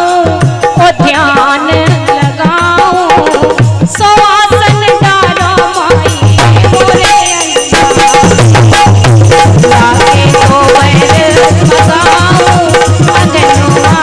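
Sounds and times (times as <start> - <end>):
woman singing: 0.0 - 8.2, 9.3 - 14.0
hand drum beating: 0.0 - 14.0.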